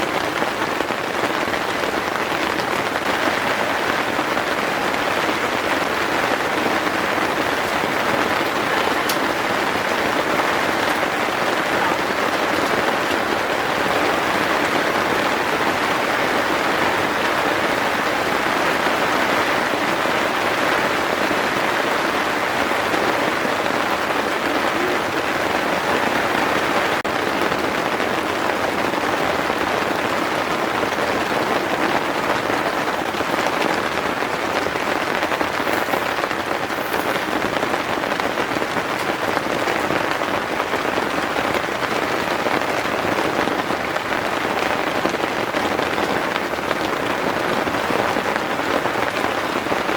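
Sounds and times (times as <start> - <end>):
heavy rain on a tent: 0.0 - 49.9.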